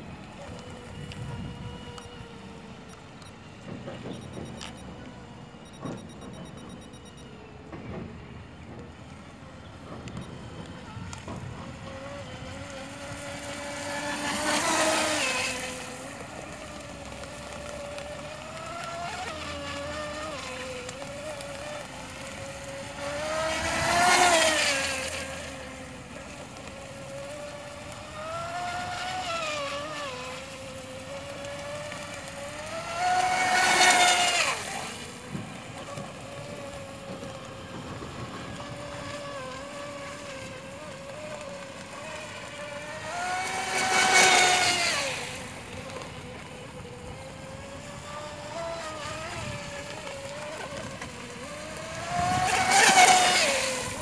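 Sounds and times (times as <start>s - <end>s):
model speedboat motor whine: 0.0s - 54.0s.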